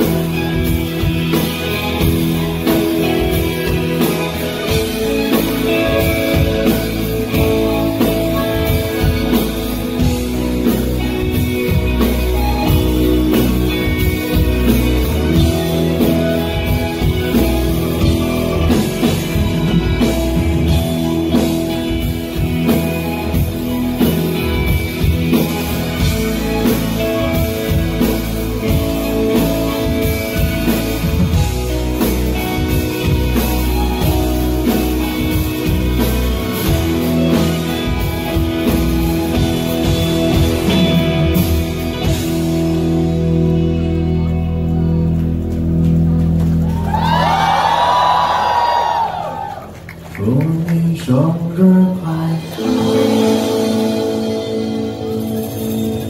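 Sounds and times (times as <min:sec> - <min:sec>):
drum kit steady beat: 0:00.0 - 0:43.6, 0:52.2 - 0:56.0
electric bass: 0:00.0 - 0:56.0.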